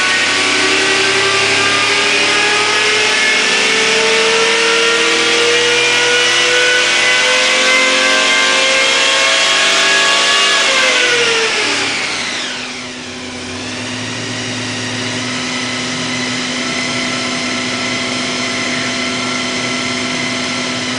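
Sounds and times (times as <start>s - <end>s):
engine revving down to idle: 0.0s - 20.9s.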